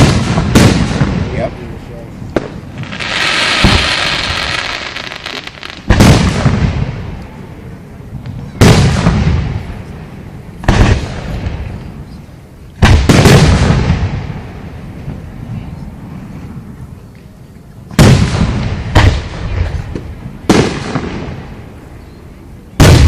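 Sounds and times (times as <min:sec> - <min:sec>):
firework booms: 0:00.0 - 0:07.2, 0:08.2 - 0:11.9, 0:12.8 - 0:16.7, 0:17.9 - 0:21.8, 0:22.8 - 0:23.0.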